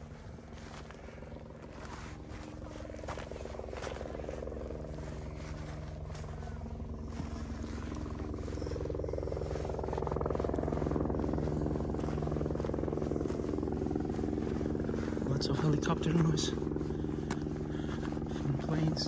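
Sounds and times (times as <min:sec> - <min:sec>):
helicopter rotor chop and drone: 0:00.0 - 0:19.0.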